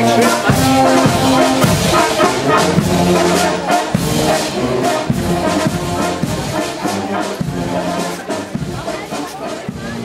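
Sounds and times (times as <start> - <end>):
brass band playing: 0.0 - 10.0
drum beat: 0.0 - 10.0.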